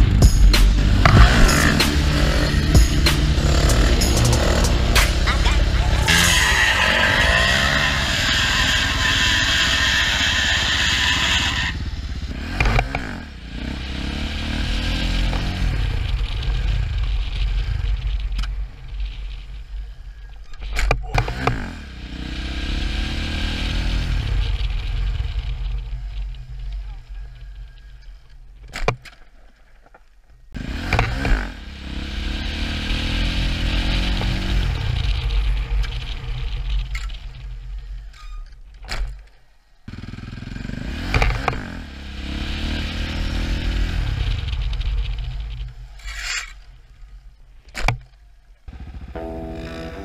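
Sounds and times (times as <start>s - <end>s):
motorcycle engine accelerating: 0.0s - 20.2s, 21.1s - 27.9s, 30.6s - 38.0s, 39.9s - 46.5s, 48.7s - 50.0s.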